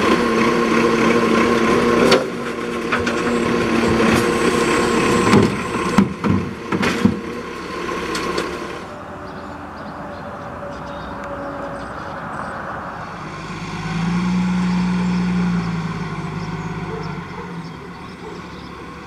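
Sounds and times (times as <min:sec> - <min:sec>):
diesel truck engine driving: 0:00.0 - 0:19.0.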